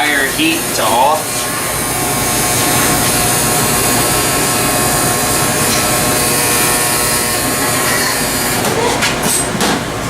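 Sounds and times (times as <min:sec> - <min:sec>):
ventilation fans roaring: 0:00.0 - 0:10.0.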